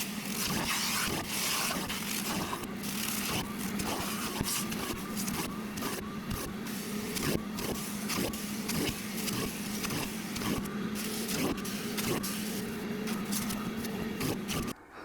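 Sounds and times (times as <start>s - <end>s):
cleaning tool humming: 0.0s - 14.8s.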